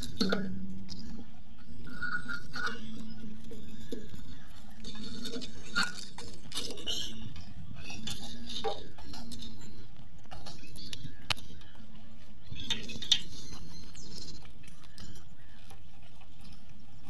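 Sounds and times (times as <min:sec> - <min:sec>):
connectors and wires clinking: 0:00.0 - 0:17.0.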